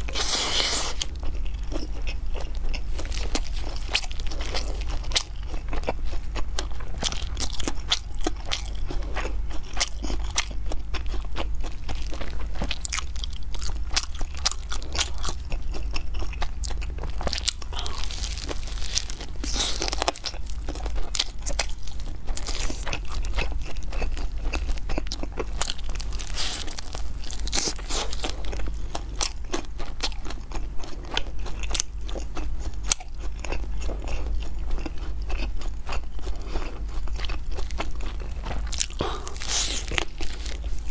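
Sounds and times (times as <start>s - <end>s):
crunching chicken wing: 0.0s - 40.9s.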